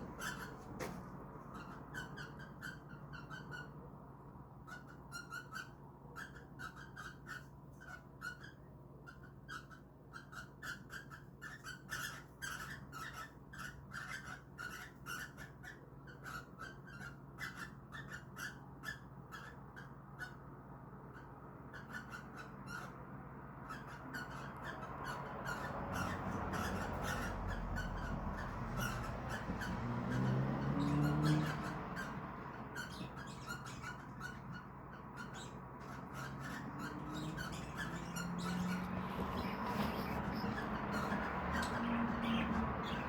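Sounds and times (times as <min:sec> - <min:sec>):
cockatiels chirping: 0:00.0 - 0:03.9, 0:04.6 - 0:23.0, 0:23.6 - 0:43.0.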